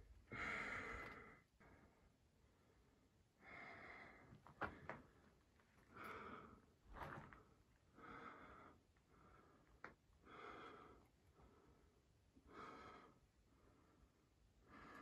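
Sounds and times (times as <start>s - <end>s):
person breathing softly: 0.2s - 15.0s.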